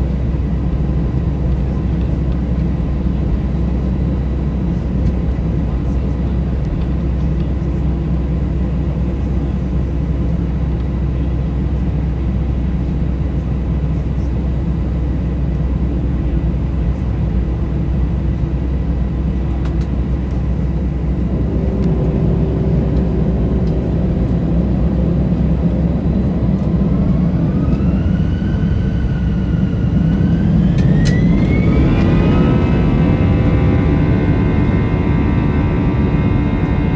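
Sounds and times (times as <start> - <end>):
jet engines rumbling: 0.0 - 36.9
jet engines whine spooling up: 0.0 - 36.9.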